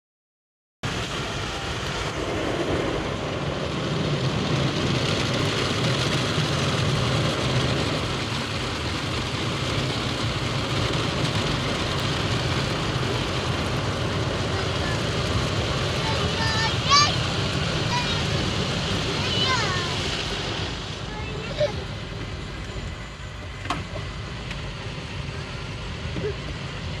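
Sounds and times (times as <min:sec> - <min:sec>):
car wash rushing and rumbling: 0:00.8 - 0:27.0.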